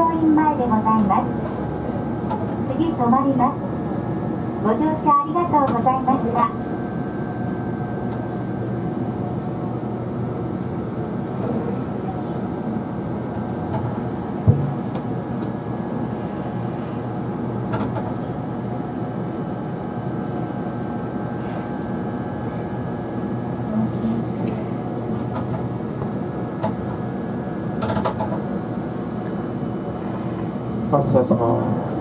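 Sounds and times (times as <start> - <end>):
tram equipment humming: 0.0 - 32.0.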